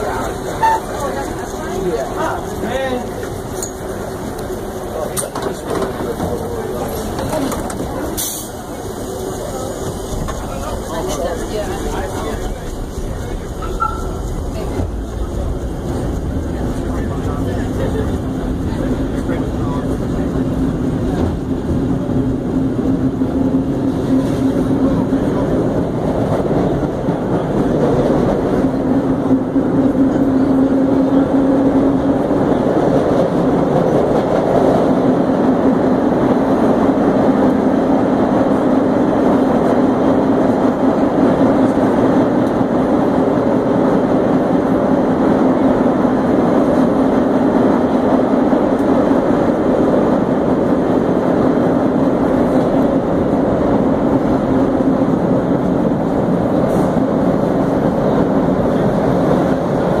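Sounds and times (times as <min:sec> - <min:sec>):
subway car wheels rumbling: 0:00.0 - 1:00.0.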